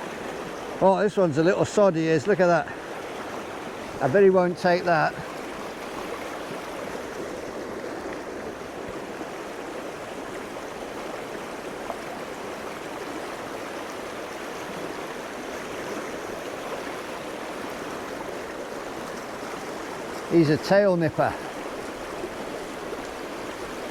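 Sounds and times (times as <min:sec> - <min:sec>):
stream water running: 0:00.0 - 0:23.9.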